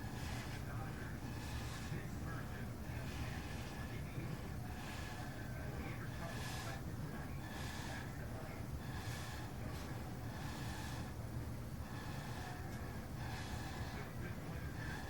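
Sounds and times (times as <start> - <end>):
breath puffs through a straw: 0.0 - 15.0
steady low hum: 0.0 - 15.0.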